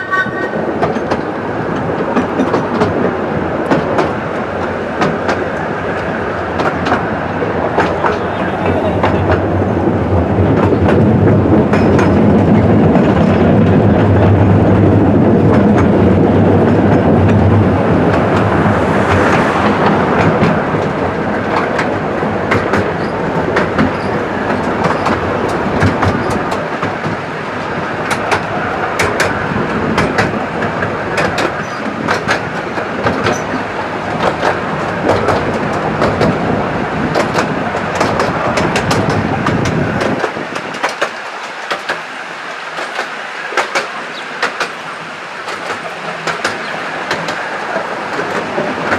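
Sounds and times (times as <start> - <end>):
train carriages rolling: 0.0 - 48.9
wheels clicking over rail joints: 0.0 - 48.9.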